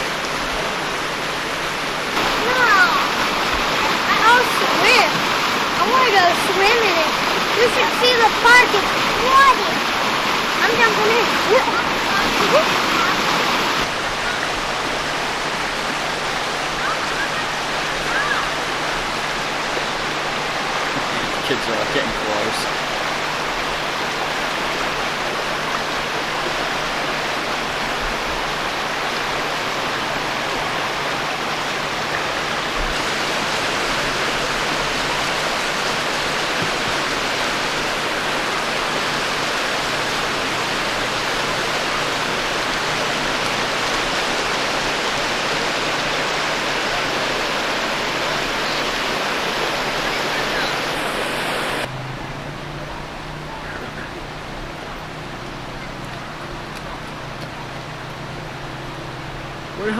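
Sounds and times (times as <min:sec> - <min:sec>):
floodwater rushing through street: 0:00.0 - 0:59.9.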